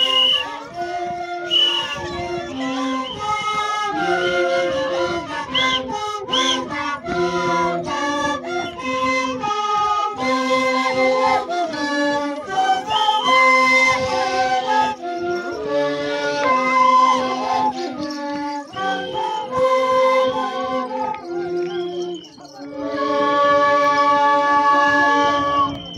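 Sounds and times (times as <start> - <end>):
cane flutes playing in unison: 0.0 - 25.9.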